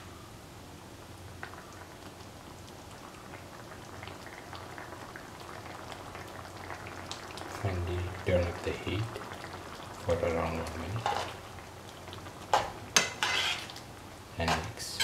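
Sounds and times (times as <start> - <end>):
curry bubbling in a pan: 1.0 - 15.0.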